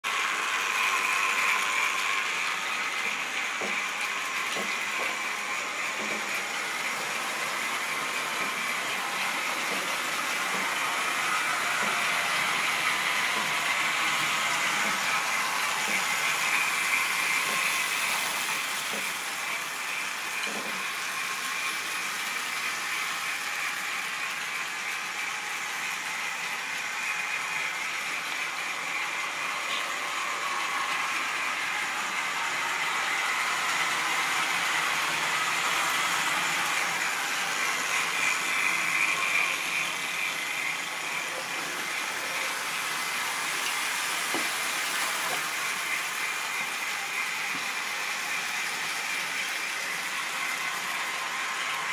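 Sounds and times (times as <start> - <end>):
model train motor whirring: 0.0 - 51.9
wheels on rails: 0.0 - 51.9.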